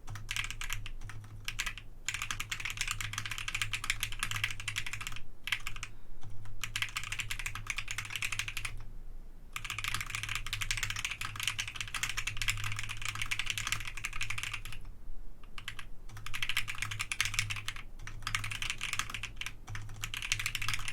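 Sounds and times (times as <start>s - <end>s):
mechanical keyboard typing: 0.0s - 8.8s, 9.6s - 20.9s.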